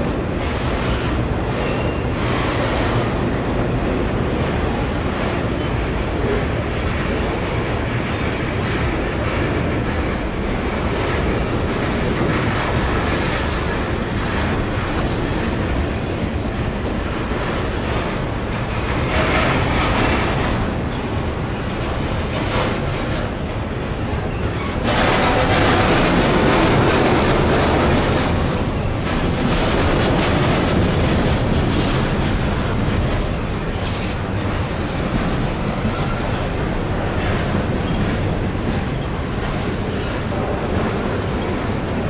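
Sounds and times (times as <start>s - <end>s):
freight cars rolling on rails: 0.0s - 42.0s.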